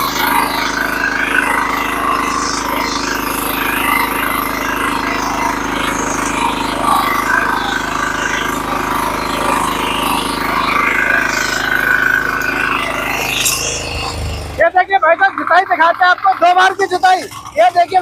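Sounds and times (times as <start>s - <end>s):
diesel engine running: 0.0s - 18.0s
tines tilling soil: 0.0s - 18.0s.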